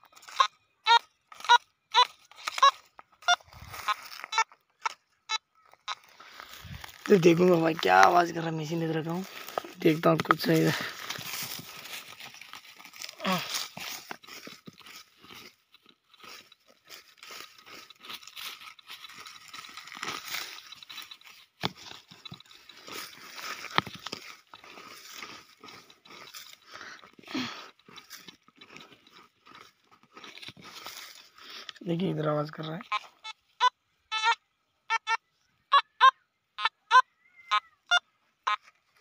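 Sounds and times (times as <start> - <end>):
dry grass crunching and rustling: 0.0 - 33.6, 38.4 - 39.0.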